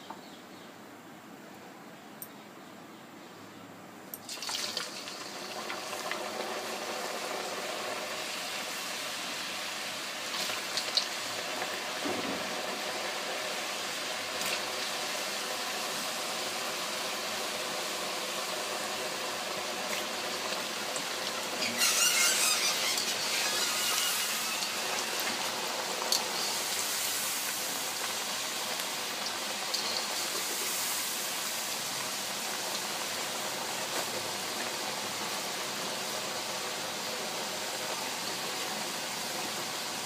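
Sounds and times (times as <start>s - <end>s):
potatoes sizzling in hot oil: 4.2s - 40.0s.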